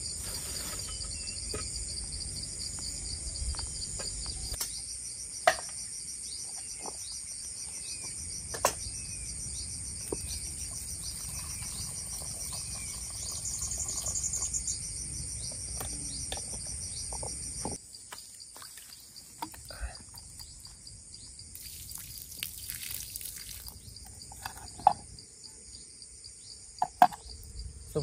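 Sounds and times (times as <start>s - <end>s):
crickets and insects chirring: 0.0s - 28.0s.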